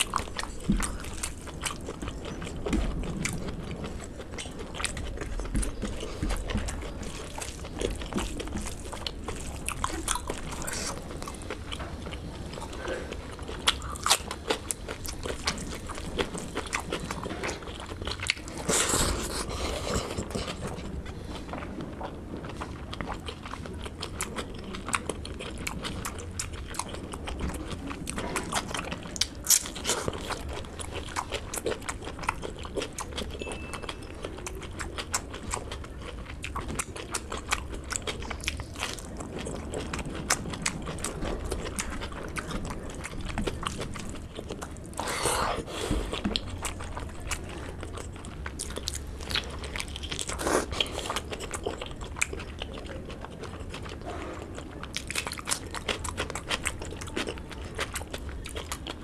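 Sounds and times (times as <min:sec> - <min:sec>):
person chewing wetly: 0:00.0 - 0:59.0.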